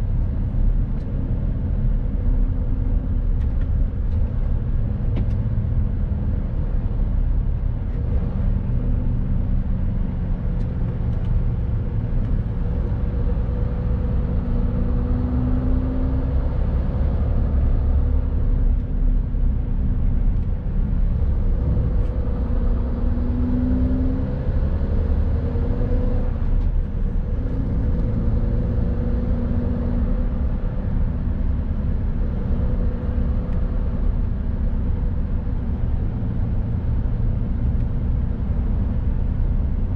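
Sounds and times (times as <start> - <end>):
low road rumble: 0.0 - 39.9.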